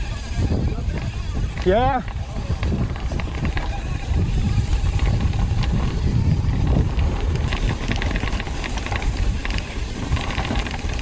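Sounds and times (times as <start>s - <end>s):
bike clicks and rattles: 0.0s - 11.0s
bike rolling on dirt trail: 0.0s - 11.0s
wind buffeting microphone: 0.0s - 11.0s.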